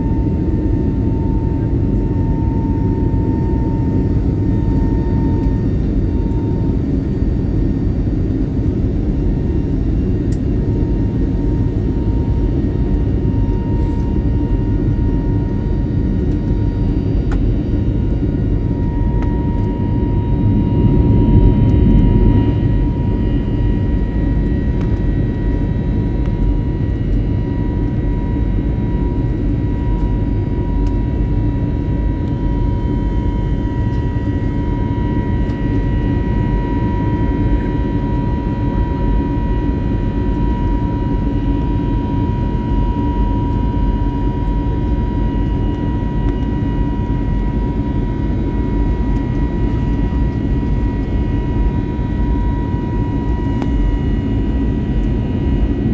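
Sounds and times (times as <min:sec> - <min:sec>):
engine whine: 0:00.0 - 0:55.9
jet engine roar: 0:00.0 - 0:55.9.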